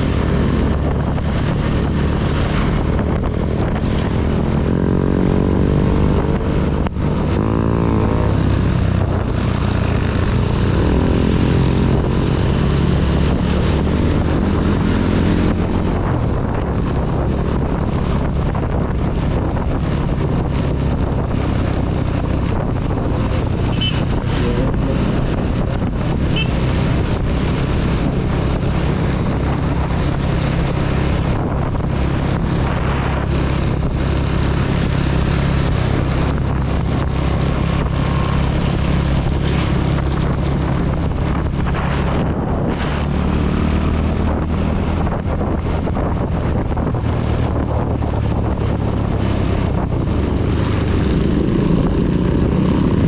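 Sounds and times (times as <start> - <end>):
motorcycle engine cruising: 0.0 - 53.0
wind on microphone: 0.0 - 53.0.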